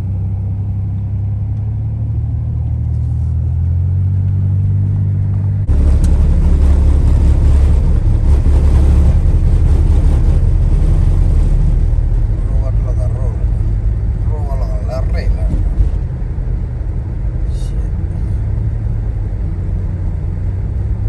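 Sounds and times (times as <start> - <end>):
rushing road noise: 0.0 - 21.0
vehicle engine drone: 0.0 - 21.0.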